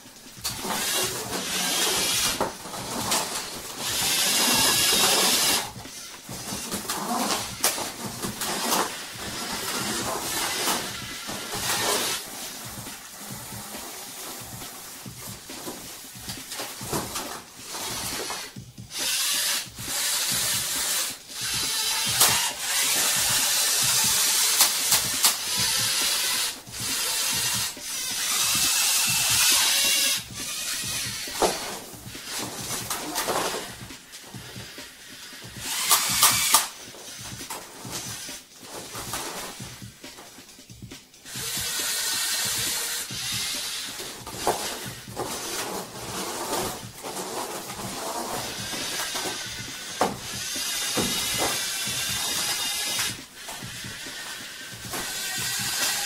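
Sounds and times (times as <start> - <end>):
small electric motors whirring: 0.2 - 40.2, 41.3 - 56.0
plastic parts clicking and knocking: 0.2 - 56.0.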